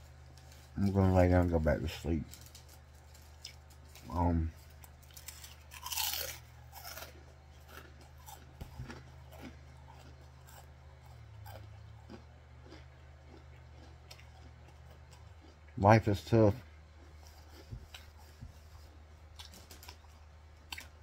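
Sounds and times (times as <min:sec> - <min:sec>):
chip crunching: 0:00.0 - 0:21.0.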